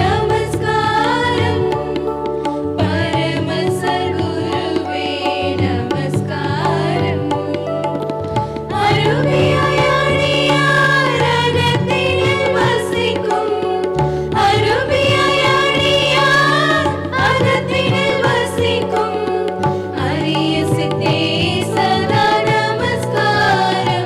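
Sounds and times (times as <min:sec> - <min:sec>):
instrumental accompaniment: 0:00.0 - 0:24.0
women singing in unison: 0:00.0 - 0:24.0.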